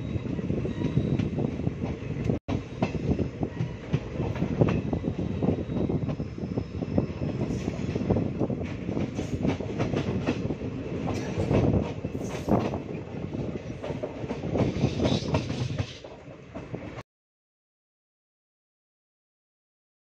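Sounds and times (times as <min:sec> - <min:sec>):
train rumble on rails: 0:00.0 - 0:17.0.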